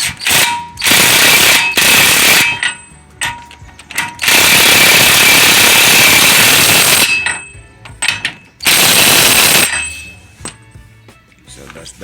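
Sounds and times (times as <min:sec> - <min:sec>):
impact wrench hammering: 0:00.0 - 0:10.6.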